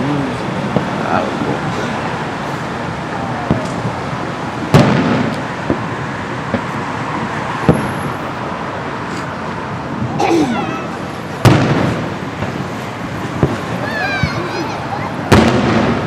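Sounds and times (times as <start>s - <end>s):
steady background noise: 0.0s - 16.0s
distant fireworks bangs: 0.6s - 8.4s, 9.0s - 16.0s.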